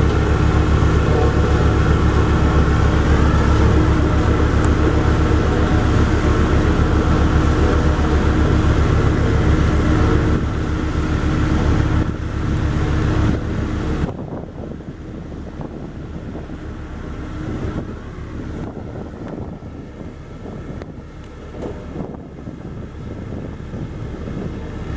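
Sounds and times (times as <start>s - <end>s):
diesel road roller running: 0.0s - 24.9s.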